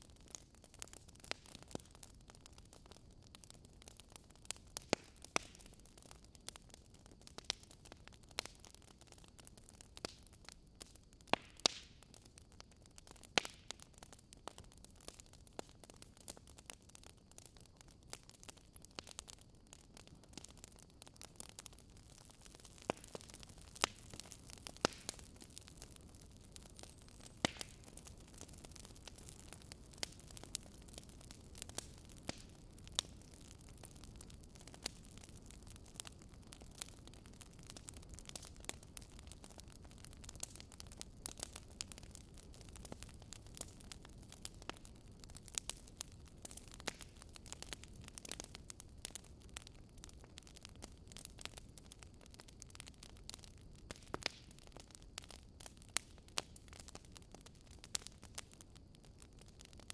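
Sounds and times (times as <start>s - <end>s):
low steady hiss: 0.0s - 59.9s
wood fire crackling: 0.0s - 59.9s.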